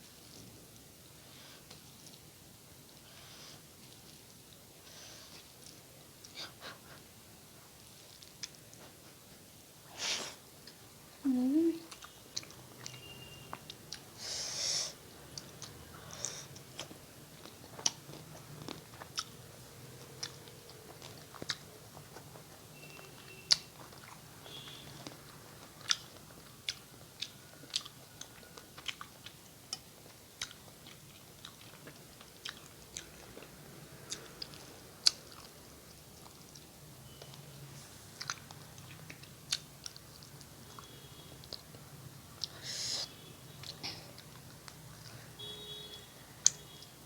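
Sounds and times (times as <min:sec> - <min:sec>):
close-miked chewing: 0:02.9 - 0:09.5, 0:11.8 - 0:14.2, 0:15.2 - 0:42.8, 0:43.5 - 0:45.5.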